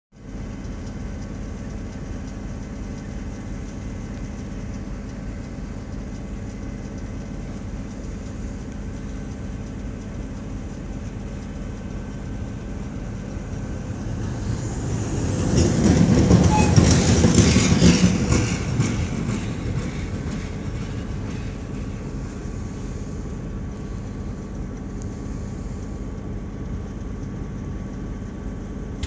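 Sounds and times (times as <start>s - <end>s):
diesel locomotive rumbling: 0.2s - 29.0s.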